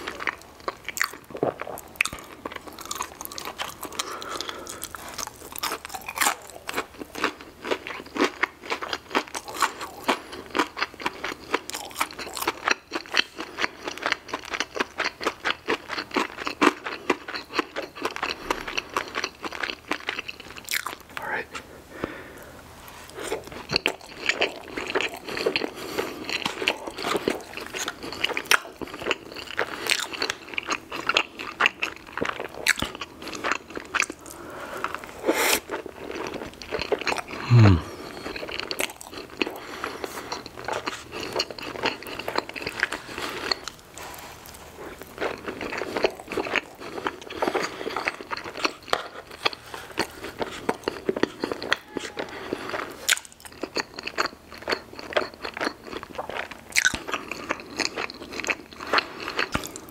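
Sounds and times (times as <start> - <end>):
wet chewing and lip-smacking: 0.0 - 21.2, 23.1 - 59.9.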